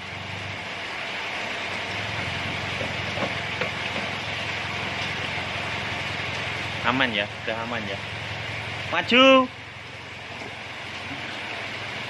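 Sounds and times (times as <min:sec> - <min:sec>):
car engine running: 0:01.7 - 0:12.0.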